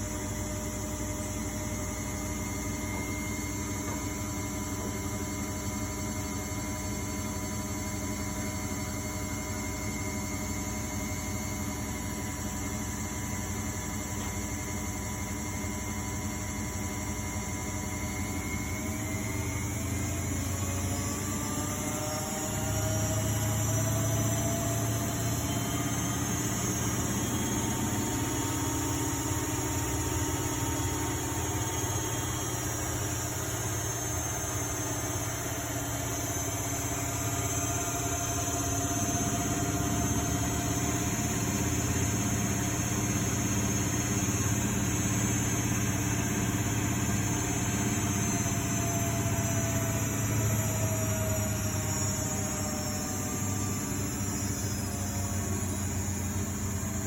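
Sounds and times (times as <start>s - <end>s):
washing machine motor whining: 0.0s - 57.0s.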